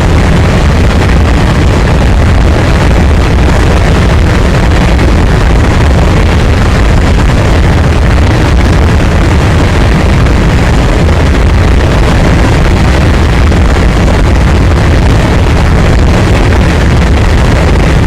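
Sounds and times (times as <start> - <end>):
freight train rumbling: 0.0 - 18.0.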